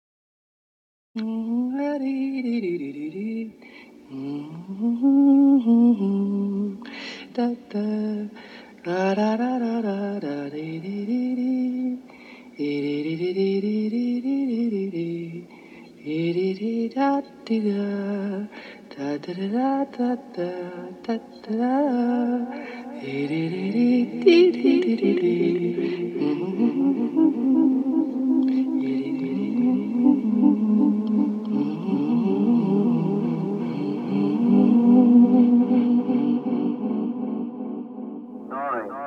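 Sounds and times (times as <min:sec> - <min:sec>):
person singing slow melody: 0:01.2 - 0:39.0.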